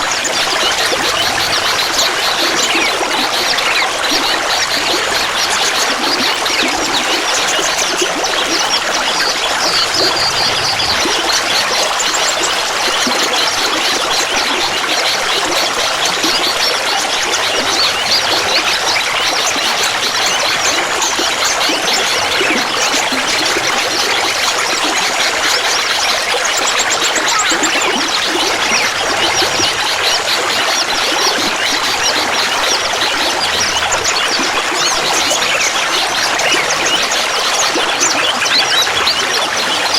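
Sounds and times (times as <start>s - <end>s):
water babbling and trickling: 0.0s - 39.9s.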